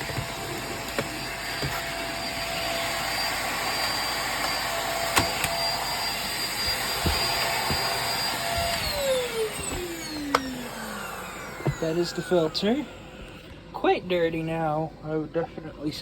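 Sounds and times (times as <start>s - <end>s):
upright vacuum whining: 0.0s - 13.8s.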